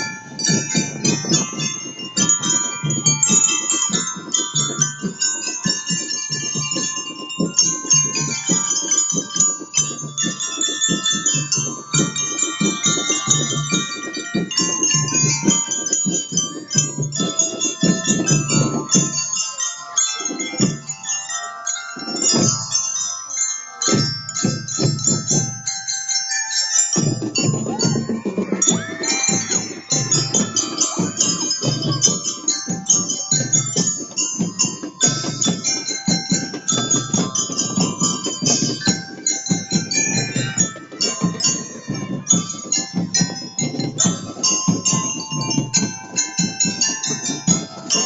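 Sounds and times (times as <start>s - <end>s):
mallet keyboards playing melody: 0.0s - 48.0s.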